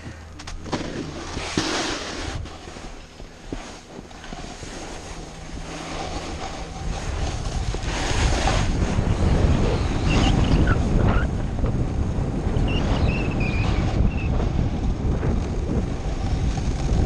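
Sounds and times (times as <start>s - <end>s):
skis sliding on snow: 0.0s - 17.0s
wind buffeting microphone: 2.2s - 17.0s.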